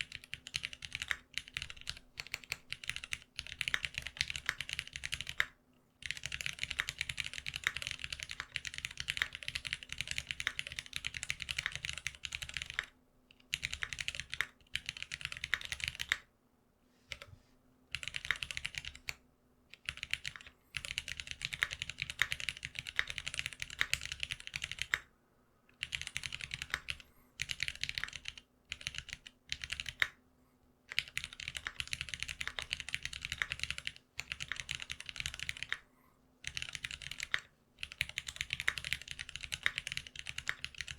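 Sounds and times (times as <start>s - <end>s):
mechanical keyboard typing: 0.0s - 16.3s, 17.9s - 19.2s, 19.8s - 25.1s, 25.8s - 30.2s, 30.9s - 35.8s, 36.4s - 40.9s.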